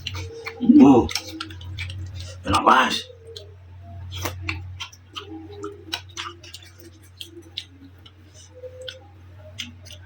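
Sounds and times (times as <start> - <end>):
chewing noodles: 0.0 - 10.0
low hum: 0.0 - 10.0.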